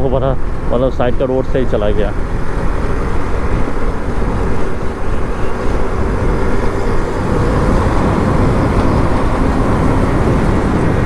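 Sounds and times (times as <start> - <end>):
motorcycle engine cruising: 0.0 - 11.0
wind and road rush: 0.0 - 11.0.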